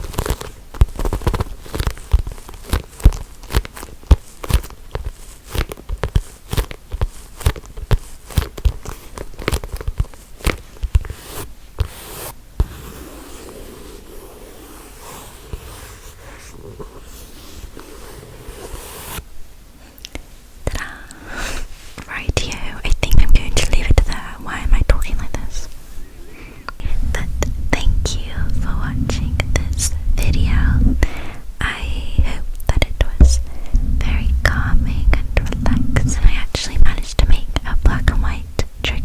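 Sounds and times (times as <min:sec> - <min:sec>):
scratchy rubbing: 0:00.0 - 0:19.3, 0:26.8 - 0:39.0.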